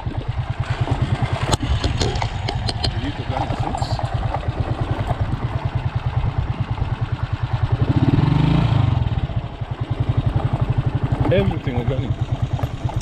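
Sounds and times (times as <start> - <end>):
motorcycle engine chugging: 0.0 - 13.0.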